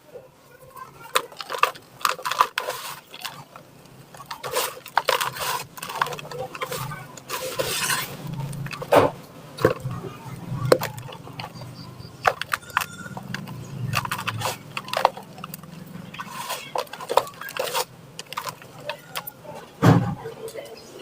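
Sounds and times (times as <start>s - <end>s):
dry bits trickling: 0.6s - 19.8s
cement chunks crumbling and cracking: 0.8s - 19.8s.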